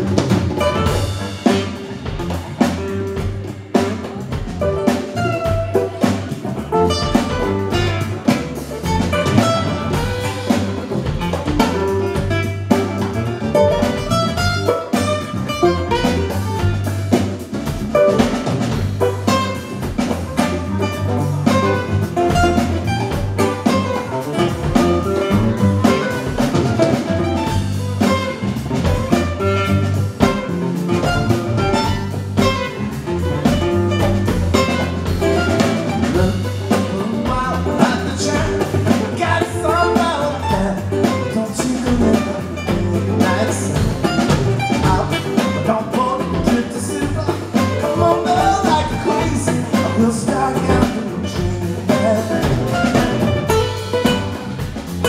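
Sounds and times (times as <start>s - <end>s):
conga hand-drum beat: 0.0s - 55.0s
electric bass: 0.0s - 55.0s
strummed acoustic guitars: 0.0s - 55.0s.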